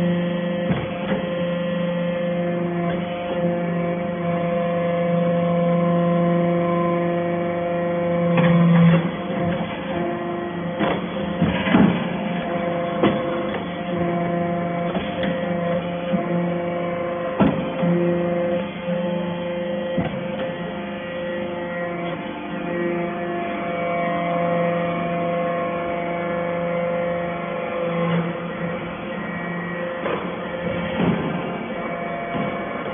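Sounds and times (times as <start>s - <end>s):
hydraulic baler humming: 0.0s - 32.9s.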